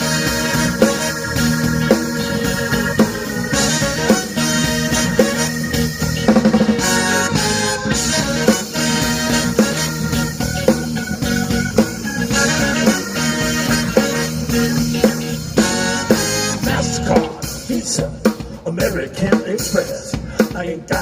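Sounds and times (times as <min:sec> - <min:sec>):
drum kit beat: 0:00.0 - 0:21.0
live funk band playing: 0:00.0 - 0:21.0.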